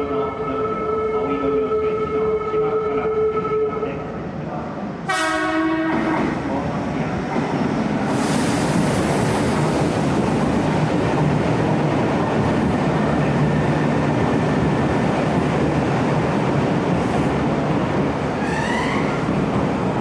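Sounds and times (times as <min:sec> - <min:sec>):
train rumbling through tunnel: 0:00.0 - 0:20.0.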